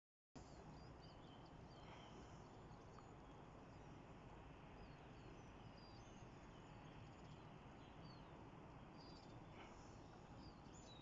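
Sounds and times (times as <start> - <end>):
faint high bird chirps: 0.4 - 11.0
steady background hiss: 0.4 - 11.0.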